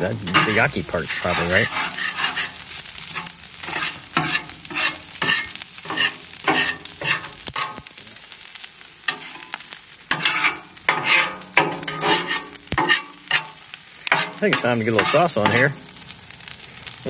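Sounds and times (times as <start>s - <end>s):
metal spatula scraping griddle: 0.0s - 7.9s, 9.0s - 16.1s
food sizzling in oil: 0.0s - 17.0s.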